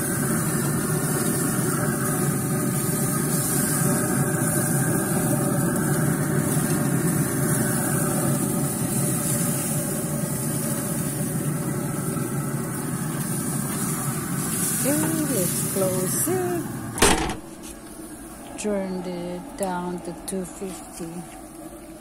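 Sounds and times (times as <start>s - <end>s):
grill fan whirring: 0.0s - 22.0s.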